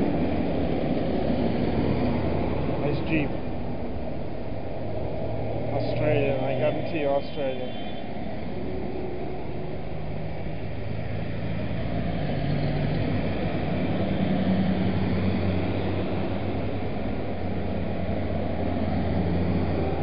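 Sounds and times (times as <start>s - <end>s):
tractor diesel engines droning: 0.0s - 20.0s.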